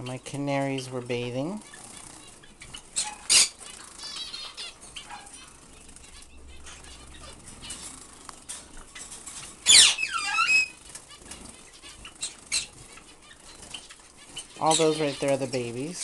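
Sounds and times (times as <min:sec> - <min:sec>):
bird chirp: 0:00.0 - 0:16.0.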